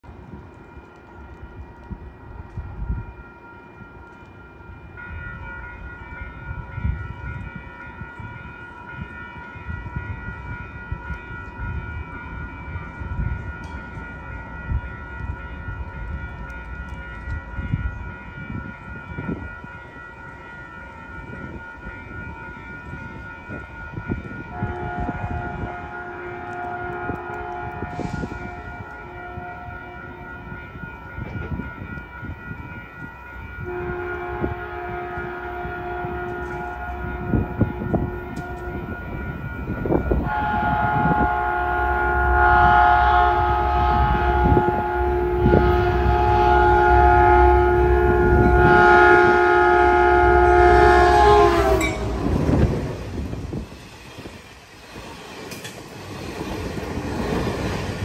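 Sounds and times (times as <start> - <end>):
wind buffeting microphone: 0.0 - 58.0
railway warning signal tones: 0.1 - 58.0.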